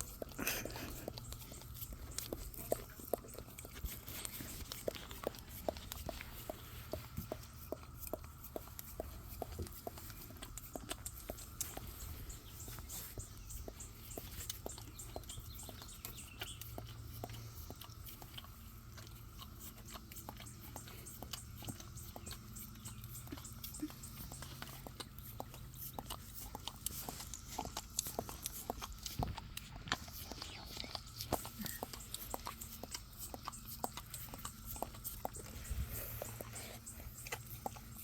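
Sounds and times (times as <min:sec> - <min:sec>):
dog licking and eating: 0:00.0 - 0:38.0.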